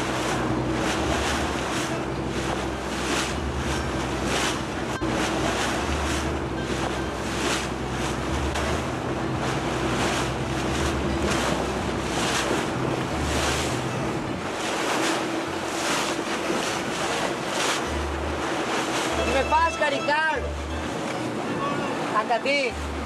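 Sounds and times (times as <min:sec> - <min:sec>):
boat engine hum: 0:00.0 - 0:23.0
water rushing: 0:00.0 - 0:23.0.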